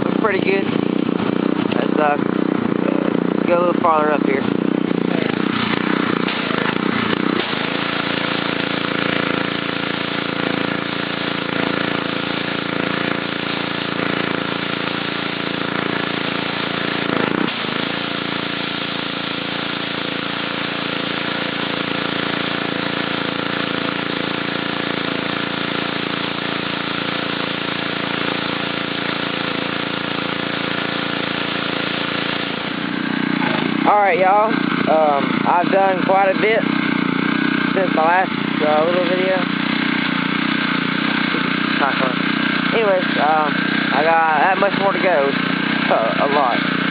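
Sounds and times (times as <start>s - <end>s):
pressure washer engine running: 0.0s - 46.9s
water jet hissing on concrete: 0.0s - 46.9s.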